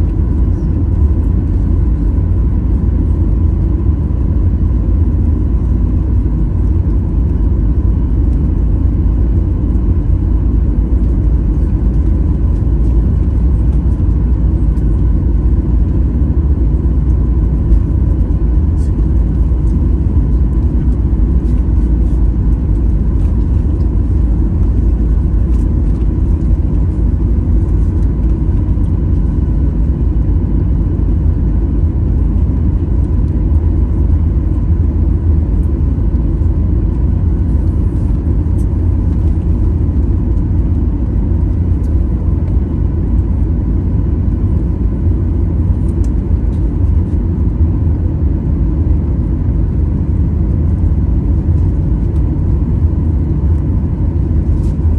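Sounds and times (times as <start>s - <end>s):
faint steady hum: 0.0s - 54.9s
jet engine rumble in cabin: 0.0s - 54.9s.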